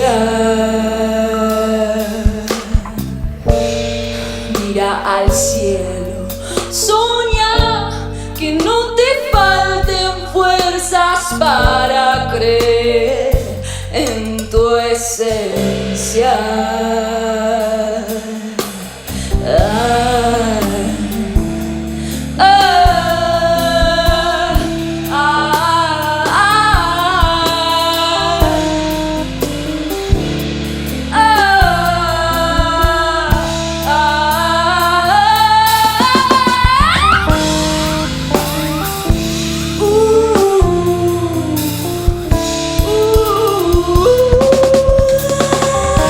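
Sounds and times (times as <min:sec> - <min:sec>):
soul band playing live: 0:00.0 - 0:46.0.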